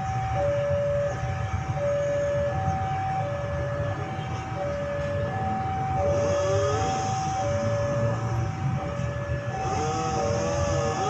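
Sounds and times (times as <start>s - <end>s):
level crossing alarm: 0.0s - 11.0s.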